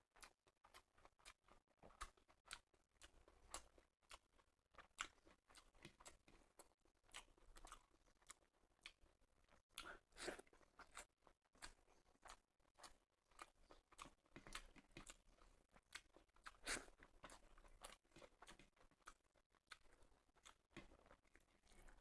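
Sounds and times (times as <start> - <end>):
person chewing food: 0.1 - 22.0.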